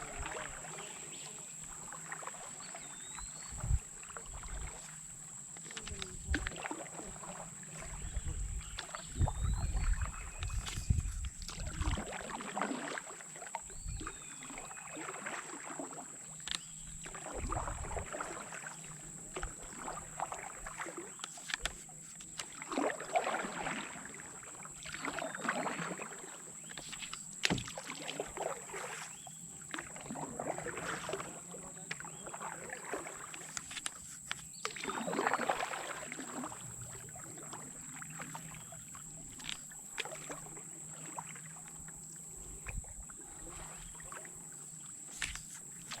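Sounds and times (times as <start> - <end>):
paddle strokes swishing through water: 0.0 - 46.0.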